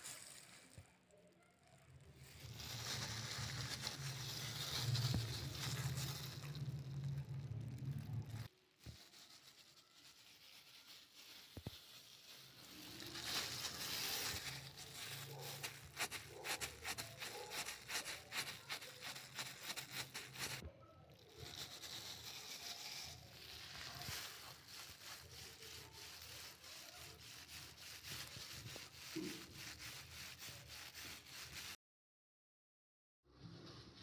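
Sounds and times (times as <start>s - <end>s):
plastic glove crinkling: 0.0s - 31.8s.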